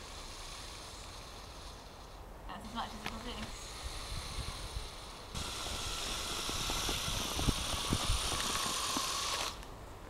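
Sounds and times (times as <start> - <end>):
toy train motor whining: 0.0 - 9.7.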